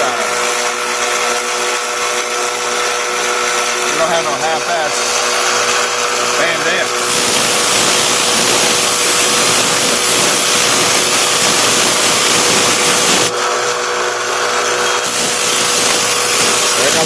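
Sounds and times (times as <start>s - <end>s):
blade grinding on sharpener: 0.0s - 17.0s
machine motor hum: 0.0s - 17.0s.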